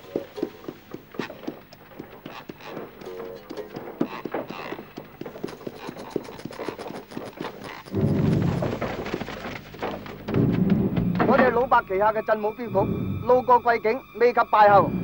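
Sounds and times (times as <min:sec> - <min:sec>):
horse hooves clopping: 0:00.0 - 0:12.8.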